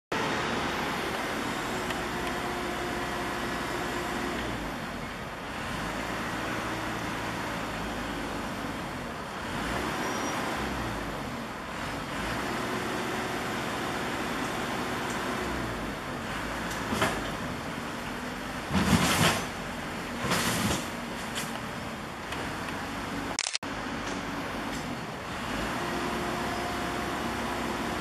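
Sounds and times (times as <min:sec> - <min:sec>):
locomotive engine drone: 0:00.1 - 0:28.0.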